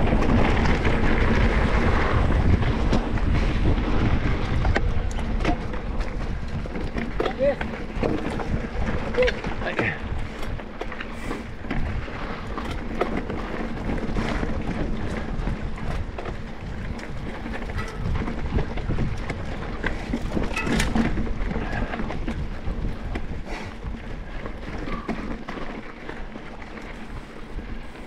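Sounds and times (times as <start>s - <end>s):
bike tyres clicking and rattling: 0.0s - 28.0s
wind rumbling on microphone: 0.0s - 28.0s.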